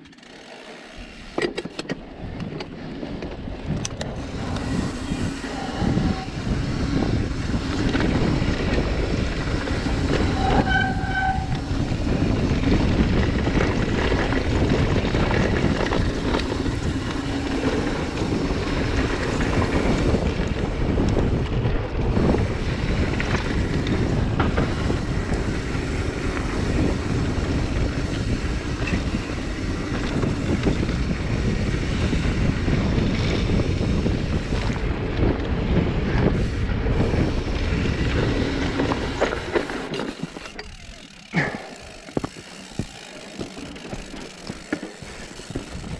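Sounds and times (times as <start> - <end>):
mountain bike rattling over dirt: 0.0 - 45.9
wind on microphone: 2.0 - 45.9.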